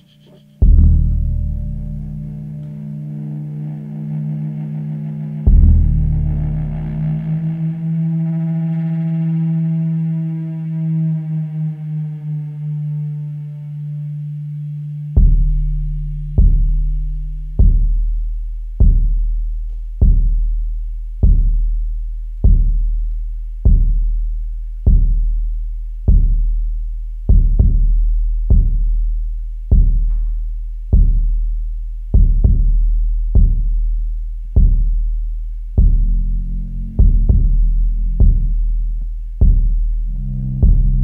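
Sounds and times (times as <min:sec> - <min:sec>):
low electronic drone: 0:00.0 - 0:41.0
deep electronic bass pulse: 0:00.6 - 0:41.0.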